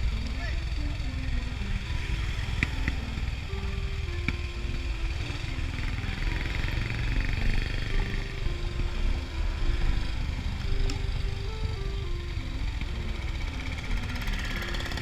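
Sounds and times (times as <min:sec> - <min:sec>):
music with stepping melody: 0:00.0 - 0:15.0
scooter engine running: 0:00.0 - 0:15.0.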